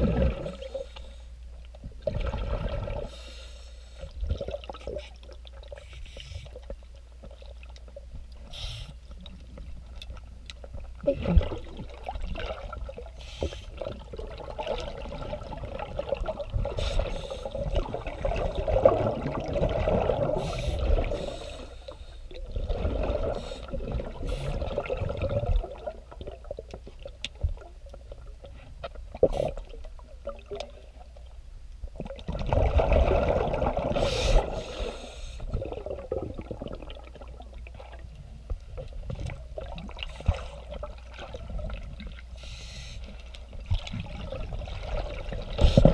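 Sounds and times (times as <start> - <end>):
underwater exhaust bubbles gurgling: 0.0 - 3.4, 4.0 - 45.9.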